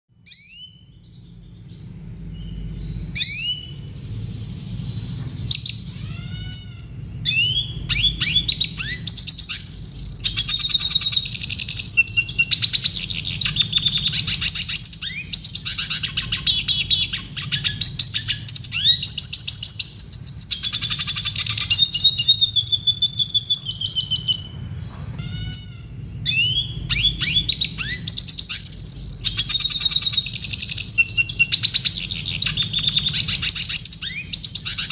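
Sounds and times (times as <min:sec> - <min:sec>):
bird singing twittering trills: 0:00.1 - 0:34.9
low steady hum: 0:00.1 - 0:34.9.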